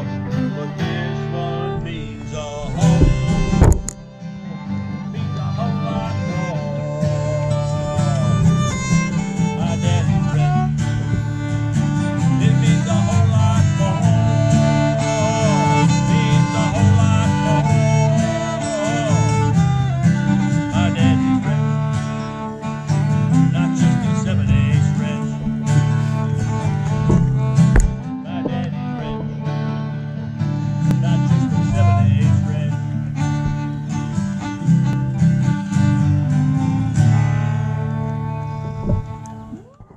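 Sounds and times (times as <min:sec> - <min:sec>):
fiddle sliding melody: 0:00.0 - 0:39.9
strummed acoustic guitars: 0:00.0 - 0:39.9.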